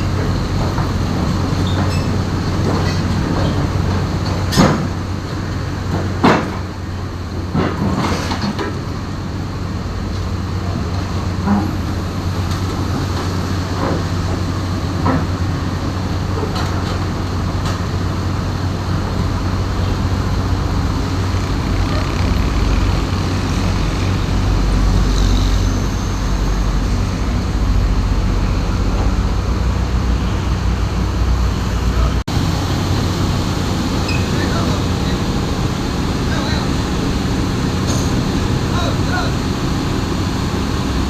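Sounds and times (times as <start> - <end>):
diesel engine rumbling: 0.0 - 41.0.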